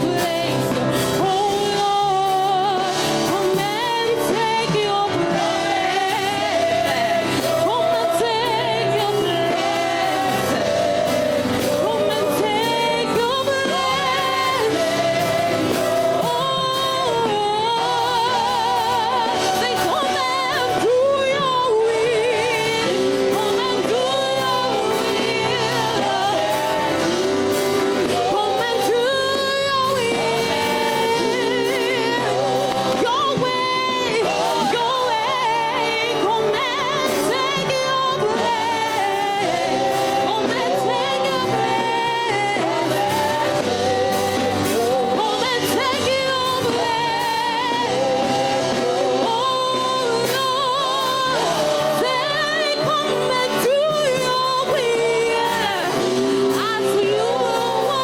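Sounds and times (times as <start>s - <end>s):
instrumental backing: 0.0s - 58.0s.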